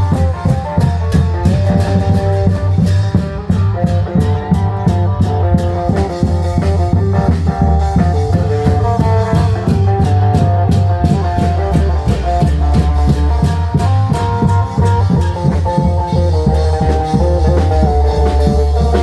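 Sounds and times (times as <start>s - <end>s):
drums beating driving rhythm: 0.0s - 19.0s
heavy steady bass: 0.0s - 19.0s.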